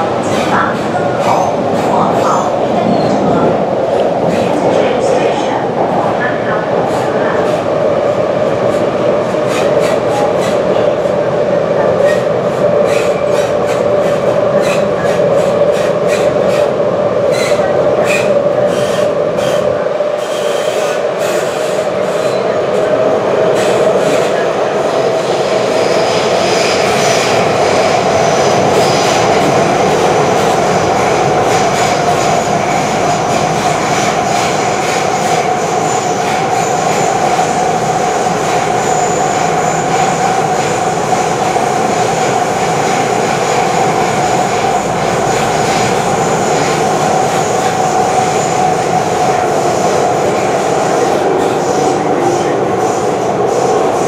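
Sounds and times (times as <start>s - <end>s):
metro train wheels rumbling on rail: 0.0s - 54.0s.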